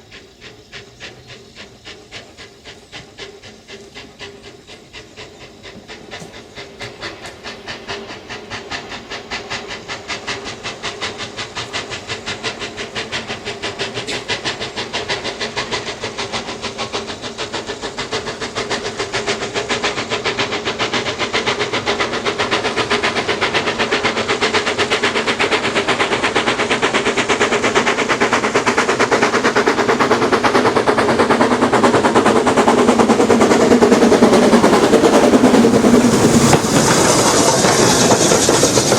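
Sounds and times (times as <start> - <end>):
steam locomotive exhaust beating: 0.0 - 38.9.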